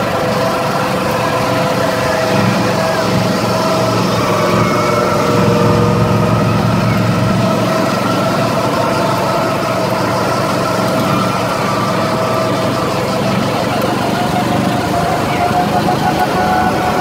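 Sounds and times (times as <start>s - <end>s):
go-kart engine drone: 0.0s - 17.0s.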